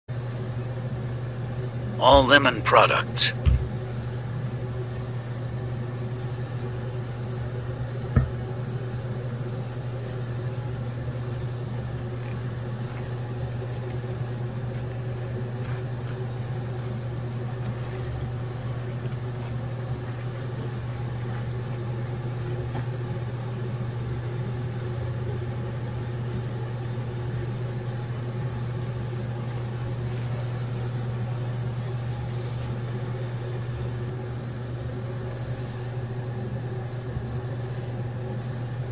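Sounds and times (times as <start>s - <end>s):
low mechanical hum: 0.1s - 38.9s.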